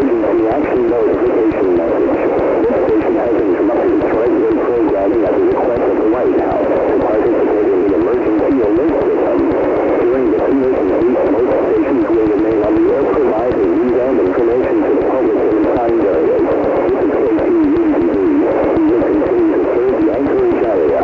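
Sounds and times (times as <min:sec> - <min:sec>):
garbled radio-like audio: 0:00.0 - 0:21.0.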